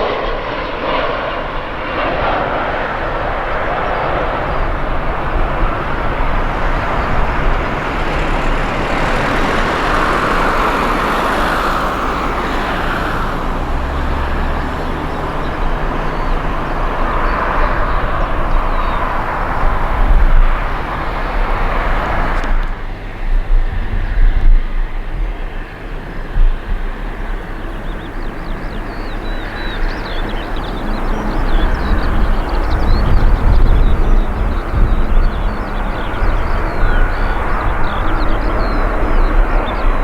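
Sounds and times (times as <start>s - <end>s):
jet engines roaring: 0.0s - 40.0s
wind buffeting microphone: 0.0s - 40.0s.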